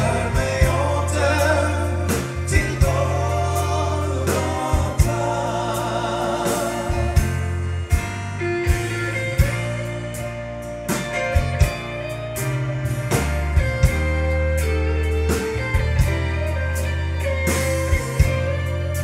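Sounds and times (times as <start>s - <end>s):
country band playing: 0.0s - 19.0s
lead guitar: 0.0s - 19.0s.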